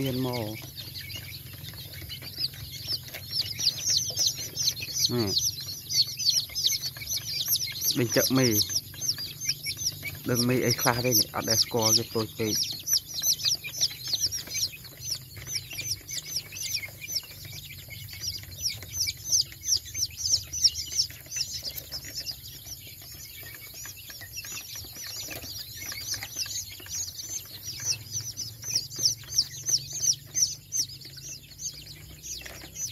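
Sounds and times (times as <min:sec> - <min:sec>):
chicks peeping: 0:00.0 - 0:32.9.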